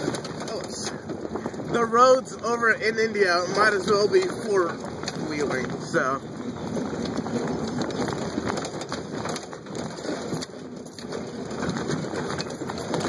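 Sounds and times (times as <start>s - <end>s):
crackles and knocks from rough ground: 0.0s - 13.0s.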